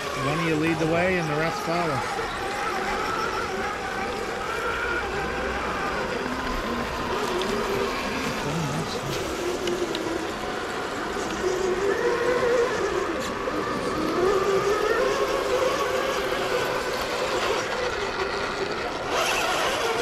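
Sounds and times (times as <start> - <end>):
rc truck motors whining: 0.0 - 20.0.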